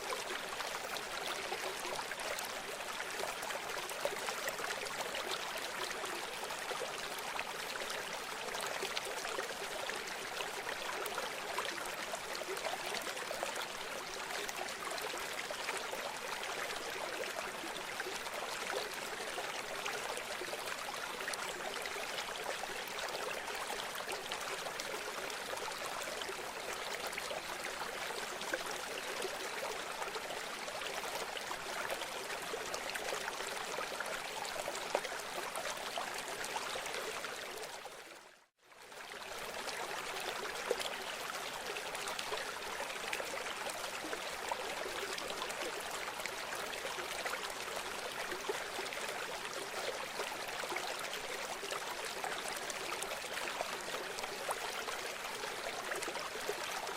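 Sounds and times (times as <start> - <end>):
river water flowing: 0.0 - 56.9.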